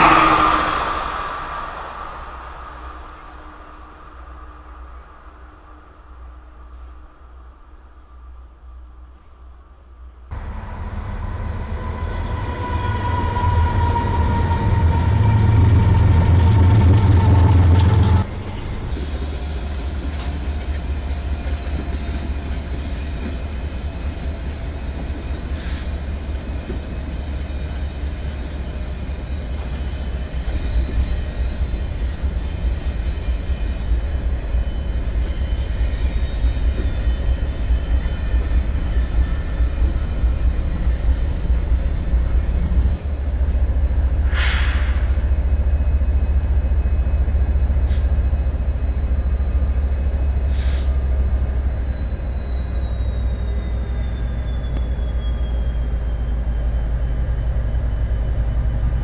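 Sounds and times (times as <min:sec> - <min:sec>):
electric train rumble and whine: 0:00.0 - 0:59.0
freight train rolling by: 0:00.0 - 0:59.0.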